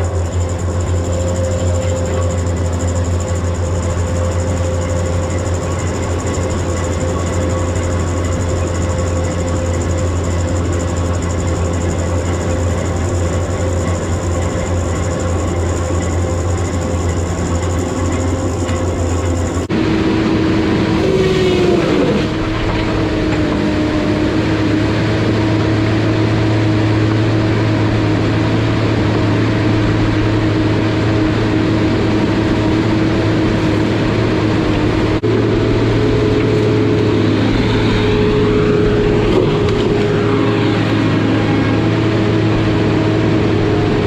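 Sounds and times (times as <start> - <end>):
falling whine: 0.0 - 25.4, 30.2 - 44.0
engine low steady tone: 0.0 - 44.0
heavy machinery deep hum: 0.0 - 44.0.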